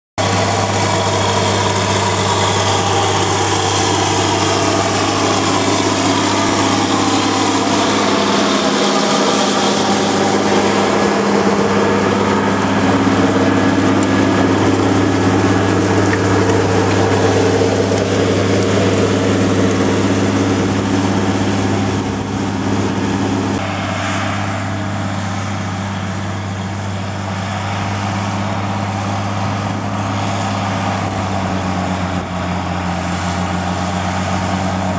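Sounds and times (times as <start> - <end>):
high whine falling in pitch: 0.2 - 34.9
tractor diesel engine running: 0.2 - 34.9.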